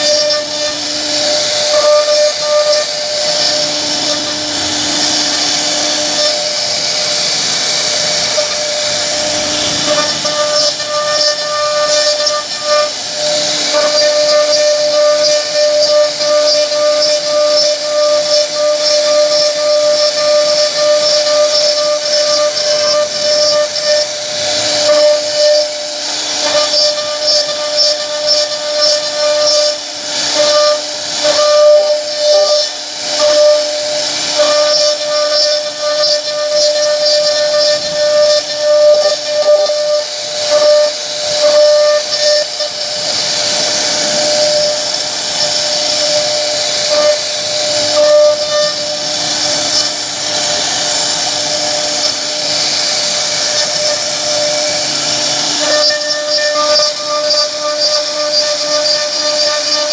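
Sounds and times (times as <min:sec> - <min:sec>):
bit cutting wood hiss: 0:00.0 - 0:59.9
router spindle whining: 0:00.0 - 0:59.9.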